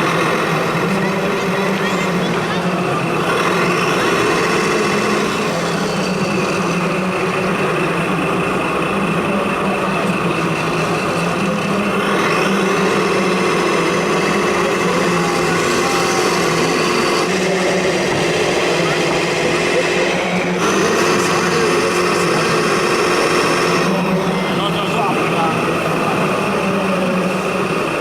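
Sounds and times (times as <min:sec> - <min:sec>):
small motors humming and whining: 0:00.0 - 0:28.0.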